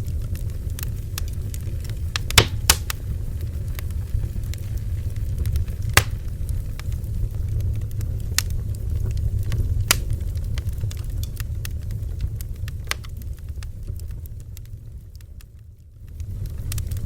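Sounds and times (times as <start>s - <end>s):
low rumble: 0.0s - 15.2s
bonfire crackling and popping: 0.0s - 17.0s.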